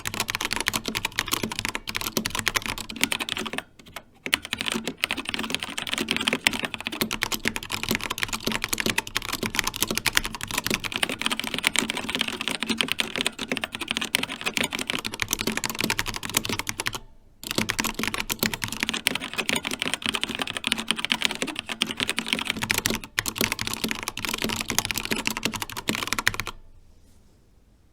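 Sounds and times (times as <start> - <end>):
fast mechanical keyboard typing: 0.0 - 26.6.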